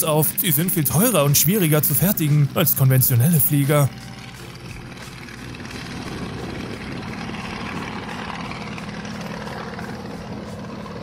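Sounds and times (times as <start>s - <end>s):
propeller aircraft flying: 0.0s - 11.0s.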